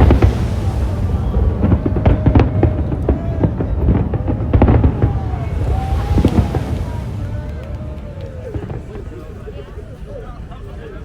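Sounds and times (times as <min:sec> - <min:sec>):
deep rumble: 0:00.0 - 0:10.2
fireworks bangs and crackles: 0:00.0 - 0:11.0.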